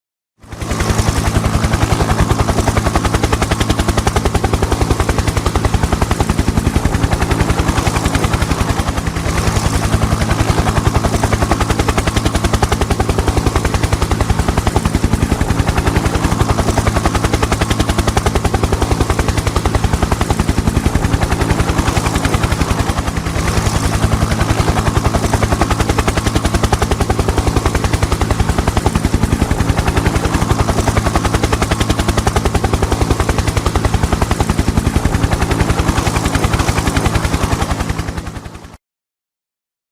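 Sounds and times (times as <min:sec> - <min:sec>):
helicopter rotor blades chopping: 0:00.4 - 0:38.8.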